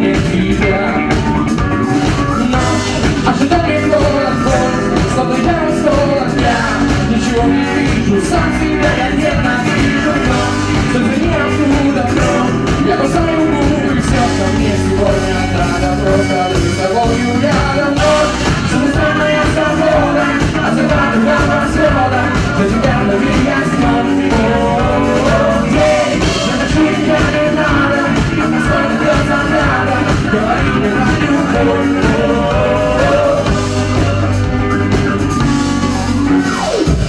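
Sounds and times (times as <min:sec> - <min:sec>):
drum kit: 0:00.0 - 0:37.0
electric guitar: 0:00.0 - 0:37.0
live band playing: 0:00.0 - 0:37.0.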